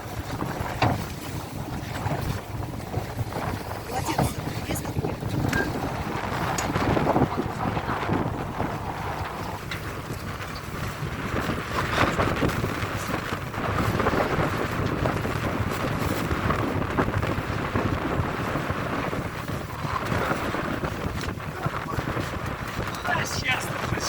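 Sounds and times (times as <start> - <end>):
boat engine rumble: 0.0 - 24.0
wind buffeting microphone: 0.0 - 24.0.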